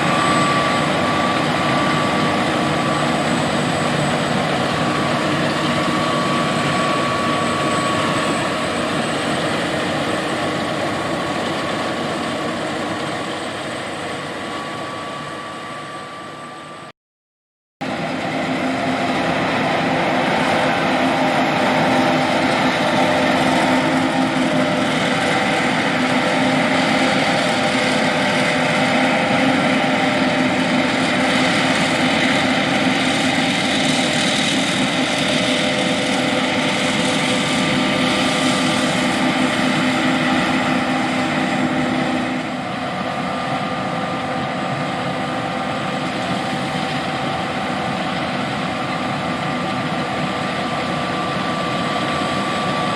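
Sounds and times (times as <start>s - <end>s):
combine harvester drone: 0.0s - 16.9s, 17.8s - 52.9s.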